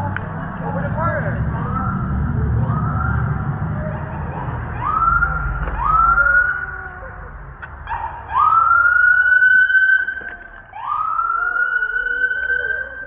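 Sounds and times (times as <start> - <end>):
siren whooping: 1.3 - 13.0.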